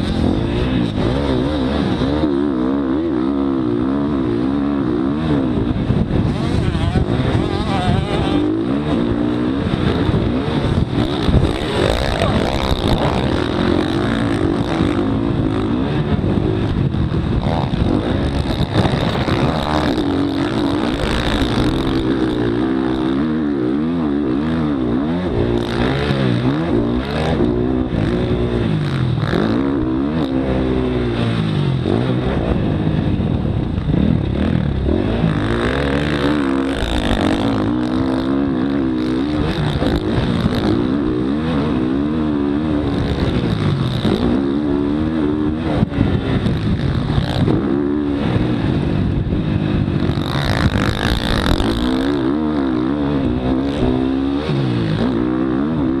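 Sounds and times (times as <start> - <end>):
constant rushing noise: 0.0 - 56.0
dirt bike engine revving: 0.0 - 56.0.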